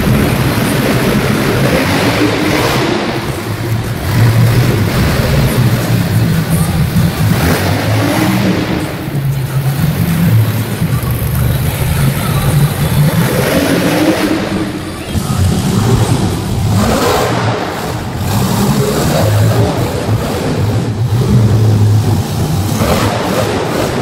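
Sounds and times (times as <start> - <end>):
monster truck engines revving: 0.0 - 24.0.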